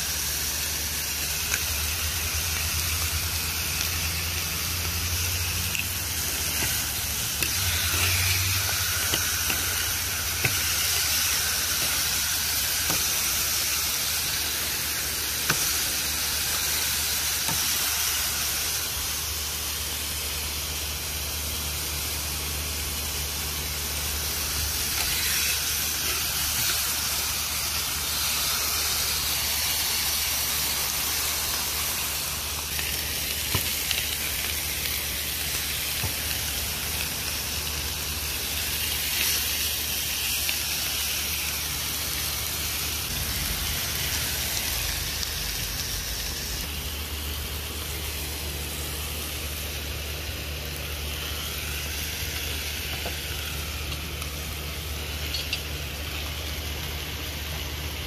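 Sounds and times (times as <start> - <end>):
chicken sizzling on hot iron: 0.0 - 58.0.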